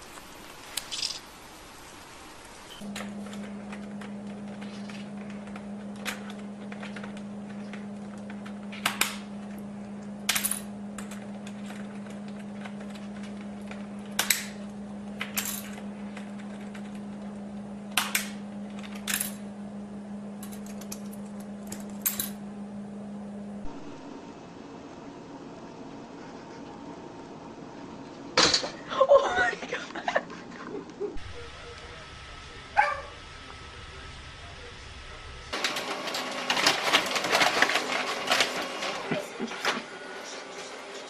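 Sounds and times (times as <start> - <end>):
steady low hum: 0.0 - 35.6.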